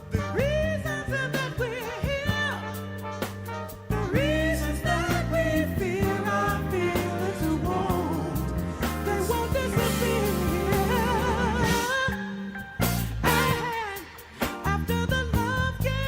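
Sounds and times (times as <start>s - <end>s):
bass and backing instruments: 0.0s - 16.0s
person singing soul song: 0.0s - 16.0s.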